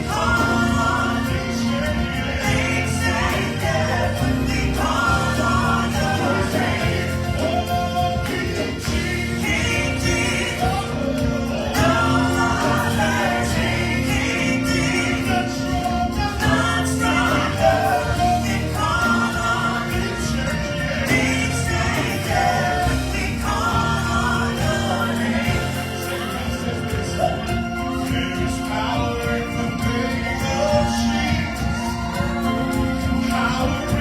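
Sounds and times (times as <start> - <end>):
gospel choir singing: 0.0 - 34.0
live band with bass and drums: 0.0 - 34.0.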